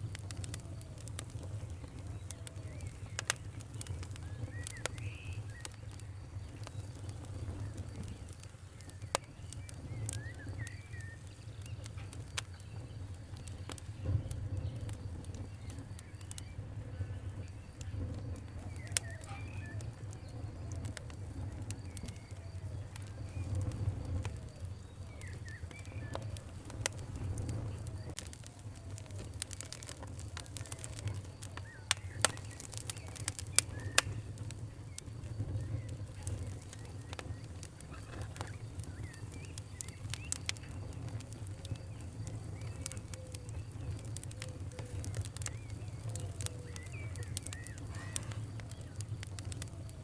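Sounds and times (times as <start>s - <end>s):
fire crackling: 0.0s - 50.0s
faint bird calls: 0.2s - 50.0s.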